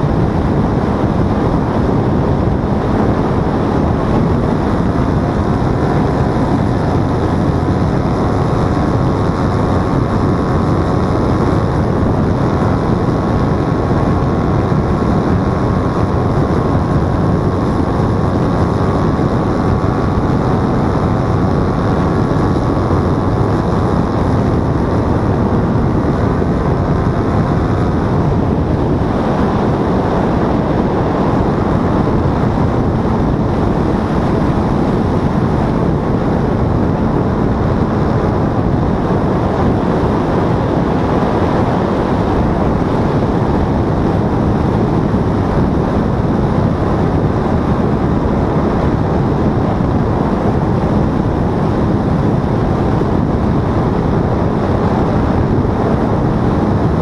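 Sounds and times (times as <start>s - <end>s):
paramotor engine running: 0.0s - 57.0s
wind rushing over microphone: 0.0s - 57.0s.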